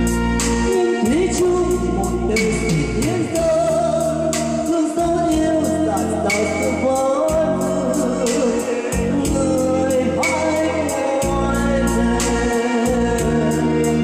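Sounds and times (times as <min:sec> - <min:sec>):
drum beat and bass: 0:00.0 - 0:14.0
person singing: 0:00.0 - 0:14.0.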